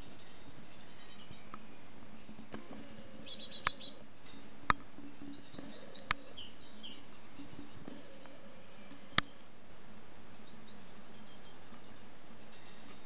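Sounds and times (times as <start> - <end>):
birds chirping and calling: 0.0 - 9.5, 10.2 - 13.0.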